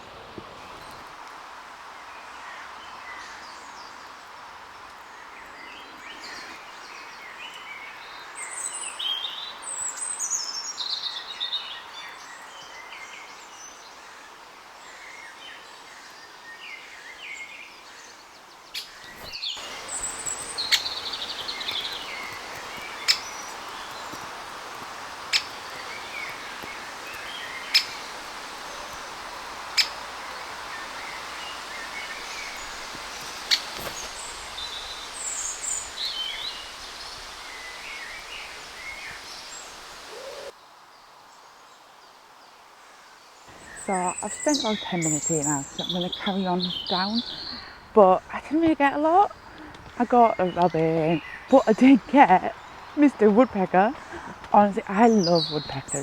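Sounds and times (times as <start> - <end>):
background noise: 0.0 - 56.0
songbirds singing and calling: 1.8 - 42.6, 43.3 - 56.0.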